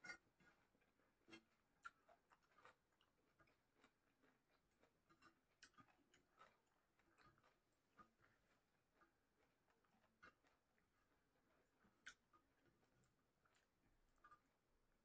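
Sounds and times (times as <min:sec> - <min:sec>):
mouth clicks of chewing: 0:01.2 - 0:14.5.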